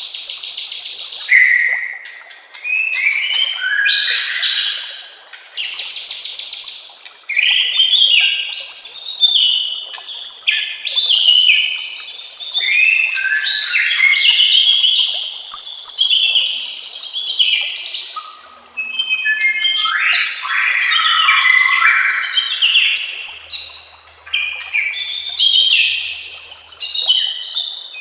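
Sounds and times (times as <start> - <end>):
bird whistles and trills: 0.1 - 4.9, 7.3 - 28.0.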